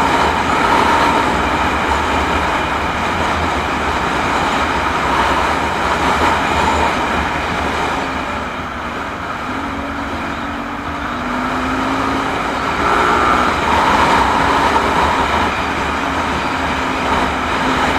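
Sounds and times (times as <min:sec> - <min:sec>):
low engine hum: 0:00.0 - 0:17.9
road noise: 0:00.0 - 0:17.9
wind rushing: 0:00.0 - 0:17.9.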